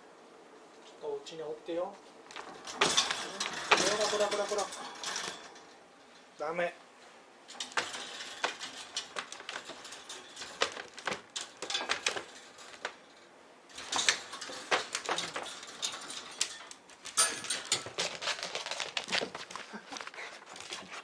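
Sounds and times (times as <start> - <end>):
dog claws scratching and scraping: 2.3 - 5.8, 7.5 - 21.0.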